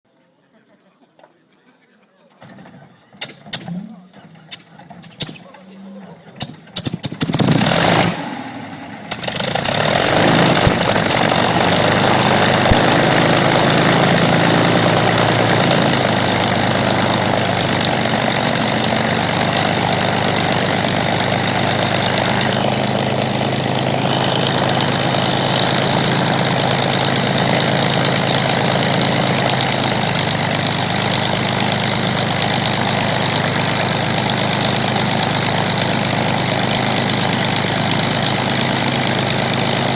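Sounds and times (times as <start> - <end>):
aero engine starting and idling: 2.4 - 39.9.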